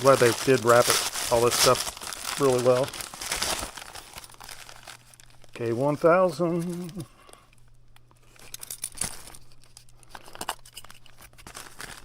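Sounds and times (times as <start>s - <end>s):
packing wrap crinkling and tearing: 0.0s - 7.1s, 8.6s - 12.0s.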